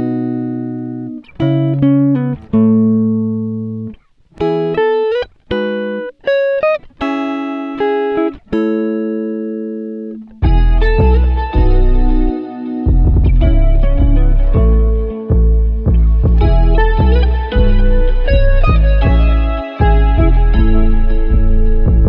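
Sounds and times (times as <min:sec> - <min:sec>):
plucked guitar chords: 0:00.0 - 0:22.0.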